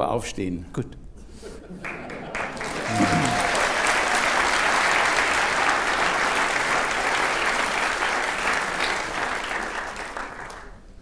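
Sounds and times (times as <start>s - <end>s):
audience applauding: 1.8s - 10.9s.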